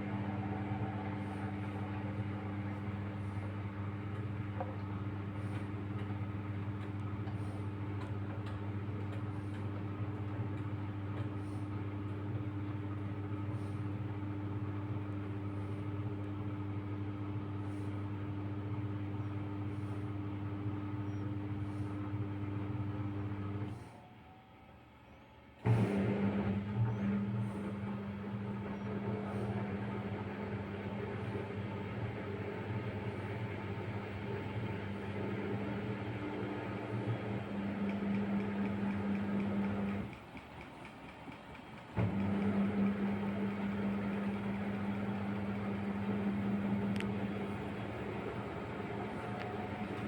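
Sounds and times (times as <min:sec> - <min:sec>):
washing machine motor hum: 0:00.0 - 0:50.0.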